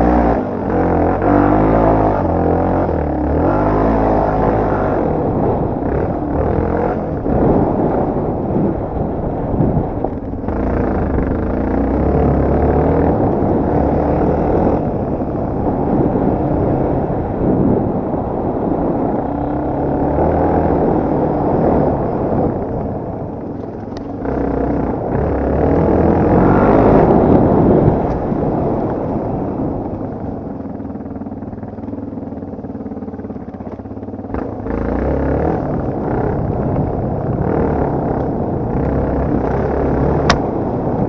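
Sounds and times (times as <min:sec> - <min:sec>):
dirt bike engine revving: 0:00.0 - 0:23.0, 0:24.2 - 0:29.8, 0:34.2 - 0:41.0
rough riding noise: 0:00.0 - 0:41.0.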